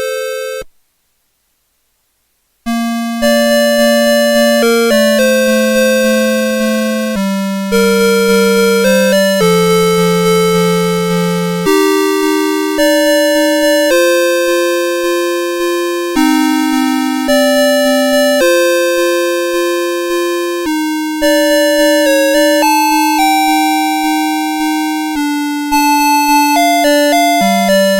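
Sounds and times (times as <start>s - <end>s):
electronic alarm clock melody: 2.7s - 27.9s.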